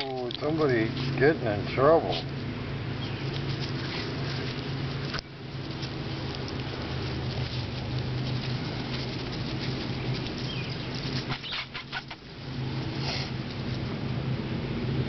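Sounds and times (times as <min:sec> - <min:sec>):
puppies pattering in grass: 0:00.0 - 0:14.2
steady low hum: 0:00.0 - 0:15.0.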